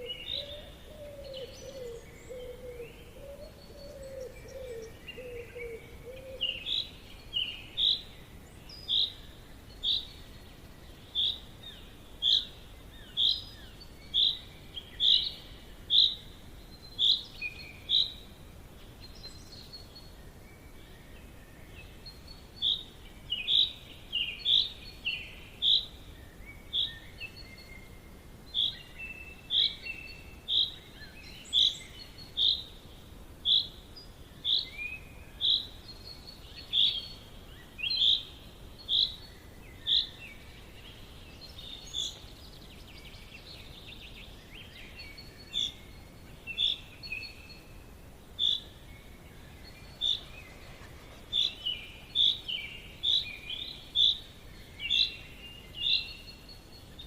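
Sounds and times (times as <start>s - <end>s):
faint calls of other birds: 0.0s - 57.0s
low steady hiss: 0.0s - 57.0s.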